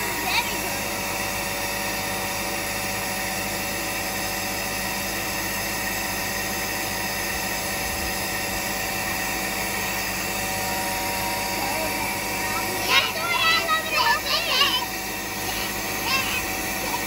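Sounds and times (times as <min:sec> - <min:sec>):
vacuum motor running: 0:00.0 - 0:17.0.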